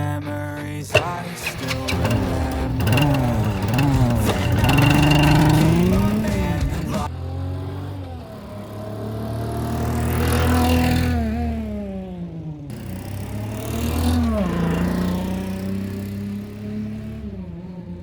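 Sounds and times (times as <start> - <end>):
synthesized motorbike engine revving: 0.0 - 18.0.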